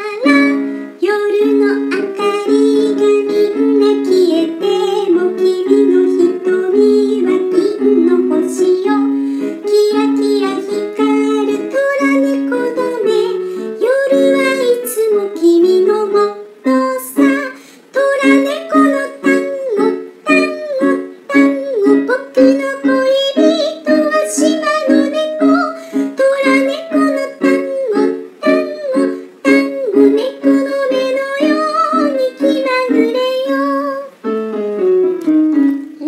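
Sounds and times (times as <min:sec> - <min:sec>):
tango song on keyboard: 0:00.0 - 0:36.0.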